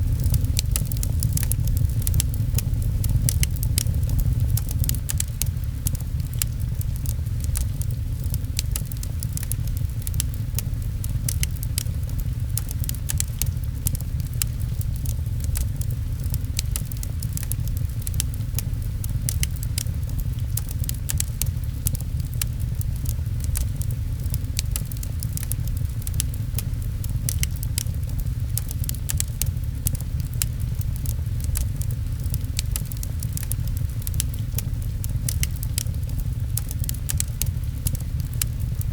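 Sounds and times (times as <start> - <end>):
rain rumbling: 0.0 - 38.9
wood fire crackling and popping: 0.0 - 38.9.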